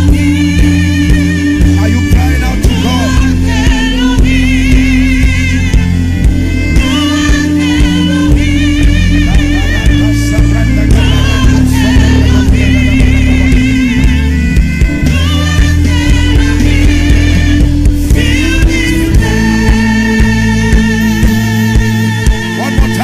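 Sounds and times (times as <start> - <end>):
keyboard chords and bass: 0.0 - 23.0
steady drumbeat: 0.0 - 23.0
voices singing with vibrato: 0.0 - 23.0.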